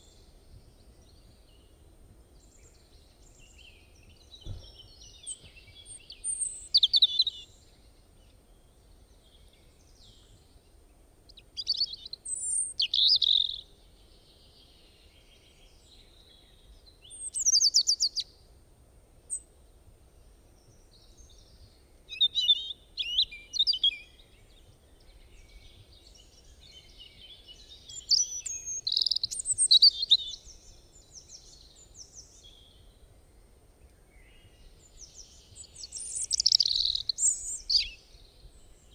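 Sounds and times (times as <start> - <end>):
songbird singing: 0.0 - 18.6, 19.2 - 38.9.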